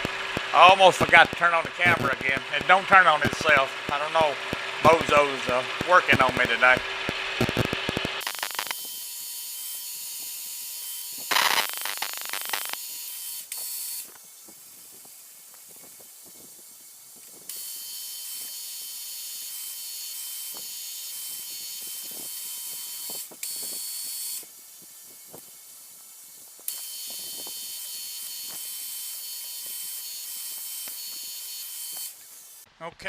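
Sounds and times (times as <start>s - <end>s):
faint steady whine: 0.0s - 9.4s, 10.0s - 32.6s
drill hissing machine noise: 0.0s - 14.2s, 17.5s - 32.7s.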